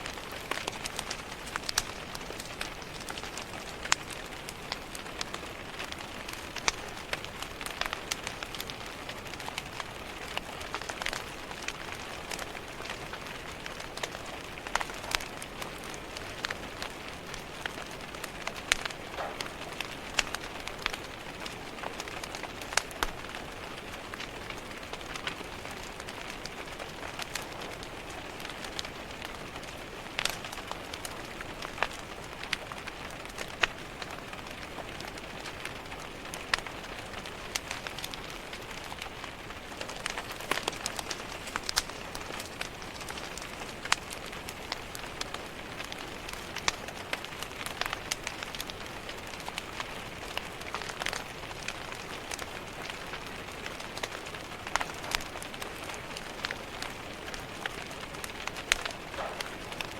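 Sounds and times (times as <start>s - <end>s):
rain pattering on a window: 0.0s - 59.9s
wood fire crackling and popping: 0.0s - 59.9s.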